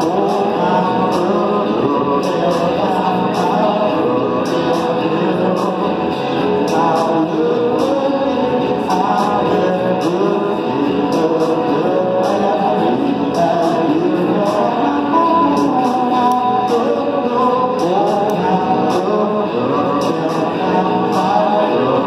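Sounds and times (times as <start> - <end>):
electric guitar: 0.0 - 22.0
man singing: 0.0 - 22.0.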